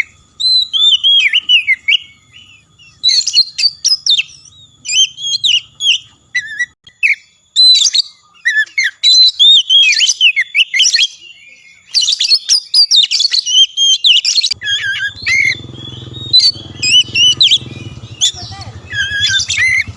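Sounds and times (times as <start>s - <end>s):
bird singing whistled phrases: 0.0s - 19.9s.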